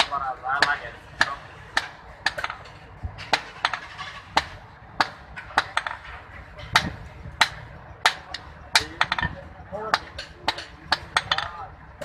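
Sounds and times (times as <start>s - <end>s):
hammer striking iron on anvil: 0.0s - 11.6s.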